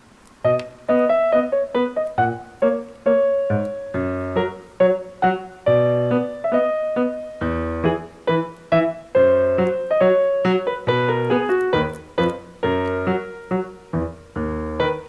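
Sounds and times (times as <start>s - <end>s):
light piano tune: 0.0s - 15.0s.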